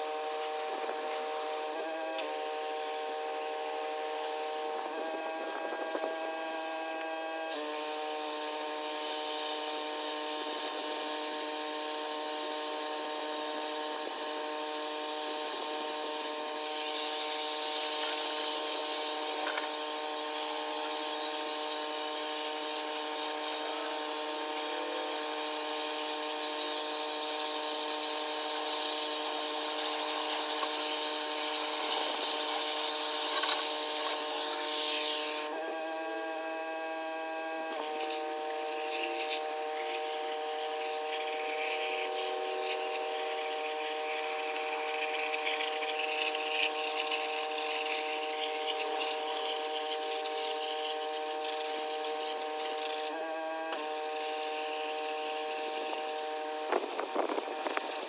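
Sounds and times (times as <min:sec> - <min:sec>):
pressure washer whine: 0:00.0 - 0:58.0.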